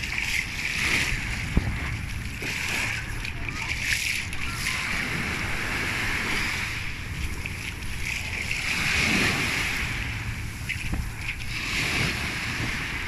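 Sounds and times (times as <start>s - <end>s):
small waves washing over sand: 0.0s - 13.0s
wind on microphone: 0.0s - 13.0s.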